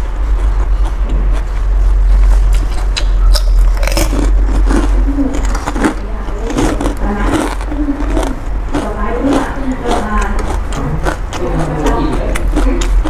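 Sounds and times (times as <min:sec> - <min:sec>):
person chewing and biting: 0:00.0 - 0:13.0
steady low hum: 0:00.0 - 0:13.0.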